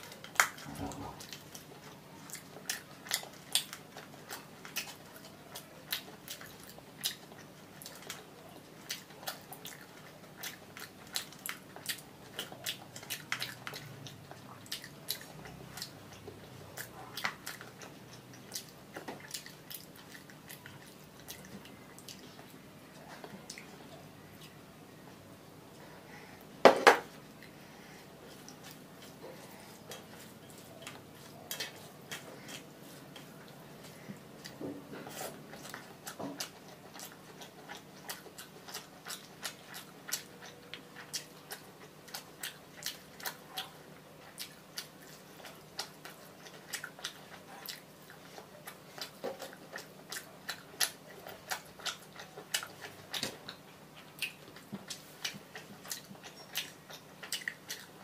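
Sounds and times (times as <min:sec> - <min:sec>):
chewing and biting food: 0:00.0 - 0:24.7, 0:26.8 - 0:58.0.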